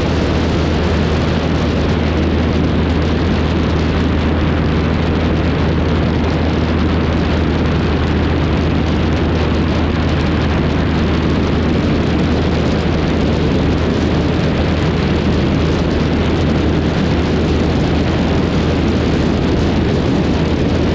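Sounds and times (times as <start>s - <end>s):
small plane engine running: 0.0s - 20.9s
wind rushing: 0.0s - 20.9s.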